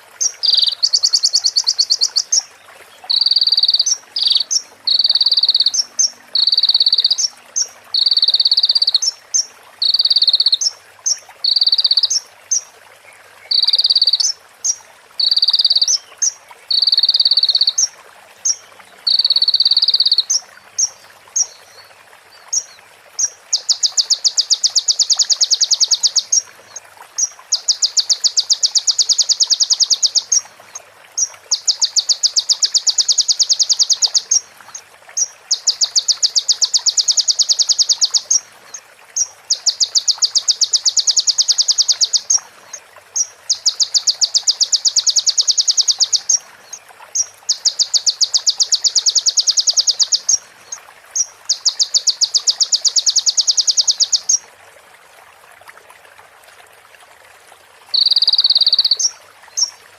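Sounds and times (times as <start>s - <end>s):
bird chirping and trilling: 0.2s - 2.5s, 3.1s - 12.7s, 13.5s - 17.9s, 18.5s - 21.6s, 22.5s - 26.4s, 27.2s - 30.5s, 31.2s - 34.5s, 35.2s - 38.4s, 39.2s - 42.4s, 43.2s - 46.4s, 47.2s - 50.5s, 51.2s - 54.4s, 58.0s - 59.8s.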